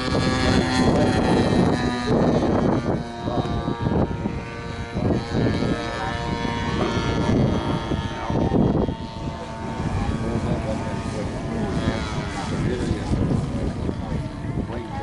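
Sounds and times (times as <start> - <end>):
model airplane engine droning: 0.0 - 15.0.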